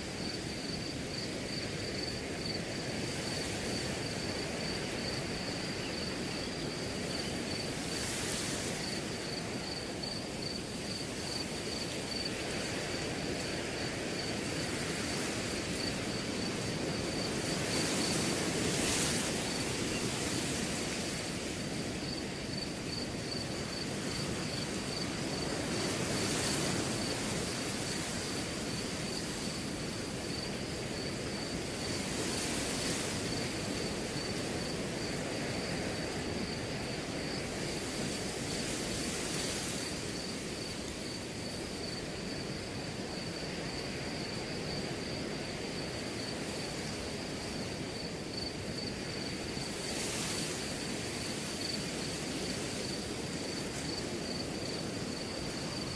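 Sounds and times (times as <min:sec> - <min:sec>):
cricket chirping trill: 0:00.0 - 0:55.9
wind rustling grass: 0:00.0 - 0:55.9.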